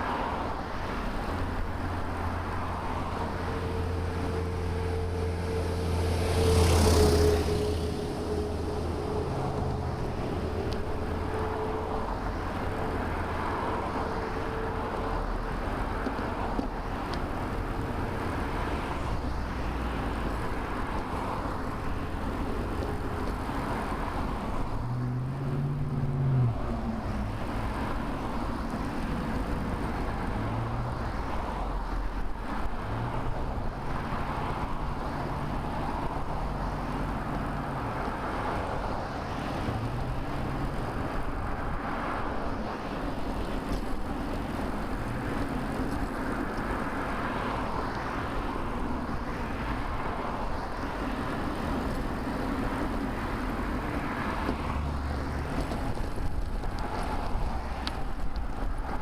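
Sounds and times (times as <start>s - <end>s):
road traffic rushing: 0.0s - 59.0s.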